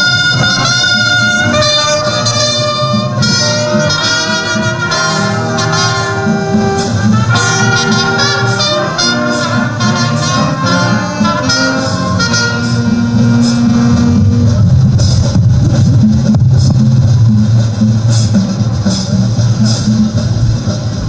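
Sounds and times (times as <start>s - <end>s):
instrumental music: 0.0s - 21.0s.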